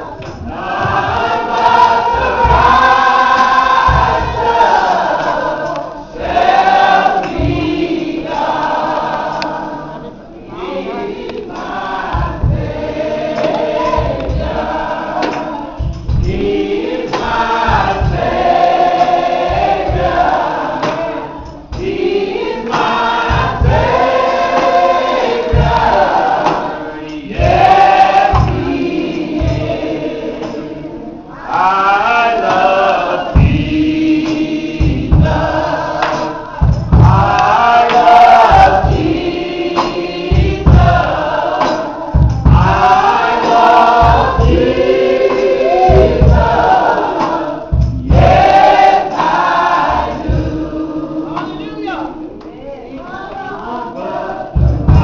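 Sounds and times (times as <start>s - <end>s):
low thumps keeping beat: 0.0s - 9.7s, 10.4s - 31.0s, 32.4s - 52.4s, 54.0s - 55.0s
group singing gospel song: 0.0s - 55.0s.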